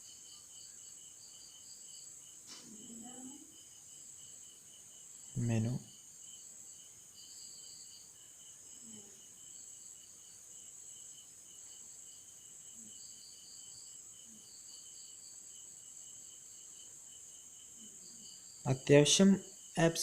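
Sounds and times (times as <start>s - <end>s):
faint insect chirring: 0.0s - 20.0s.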